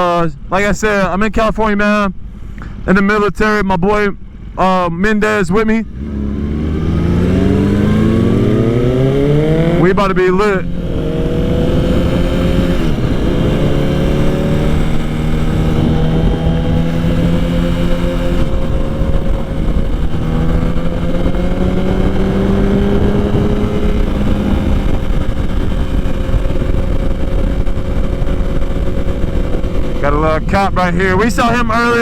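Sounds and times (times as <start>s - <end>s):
wind noise on microphone: 0.0s - 32.0s
motorcycle engine: 5.7s - 32.0s.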